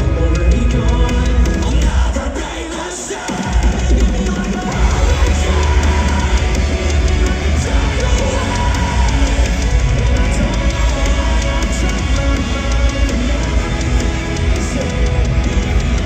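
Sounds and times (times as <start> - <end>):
metal band playing live: 0.0 - 16.0.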